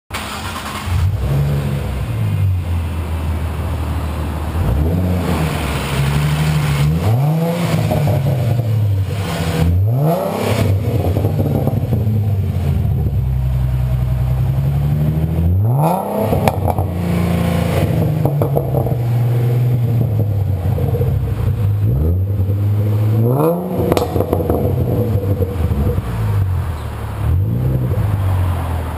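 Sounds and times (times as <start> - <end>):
car engine revving: 0.1 - 28.9.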